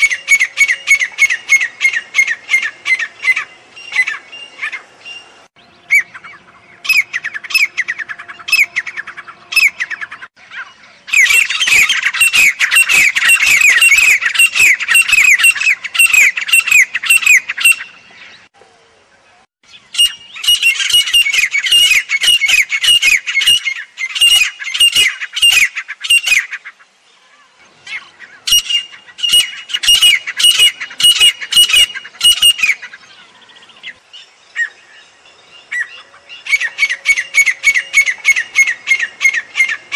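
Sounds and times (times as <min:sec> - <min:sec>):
francolin calling: 0:00.0 - 0:39.9.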